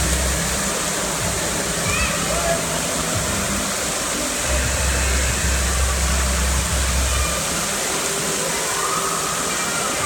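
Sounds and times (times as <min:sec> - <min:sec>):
running and splashing water: 0:00.0 - 0:10.0.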